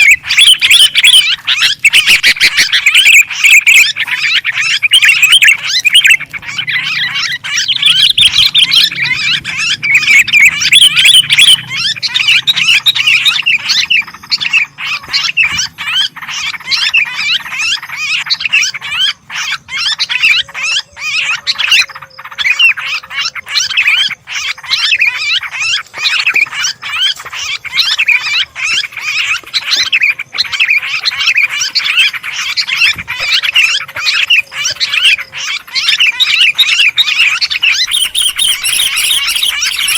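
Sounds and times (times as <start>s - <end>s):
chorus of chattering bird calls: 0.0s - 39.9s.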